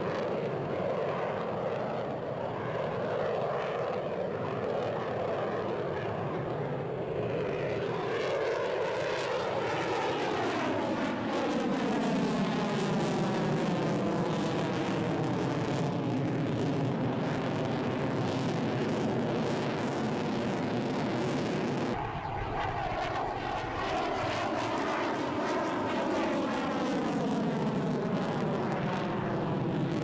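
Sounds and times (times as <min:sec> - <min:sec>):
jet aircraft flying past: 0:00.0 - 0:30.0.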